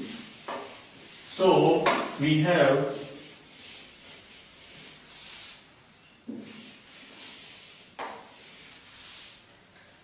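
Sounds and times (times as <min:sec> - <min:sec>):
duster swishing on whiteboard: 0:00.0 - 0:05.7, 0:06.3 - 0:09.5.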